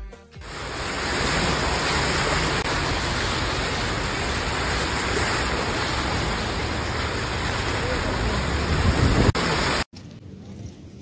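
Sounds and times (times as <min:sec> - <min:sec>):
car splashing through deep water: 0:00.4 - 0:09.9.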